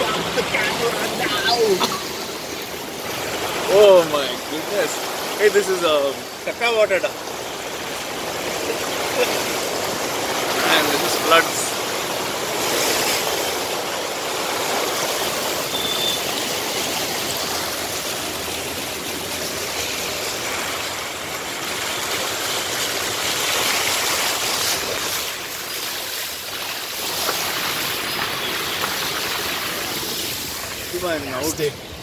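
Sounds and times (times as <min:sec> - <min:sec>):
car driving through floodwater: 0:00.0 - 0:32.0.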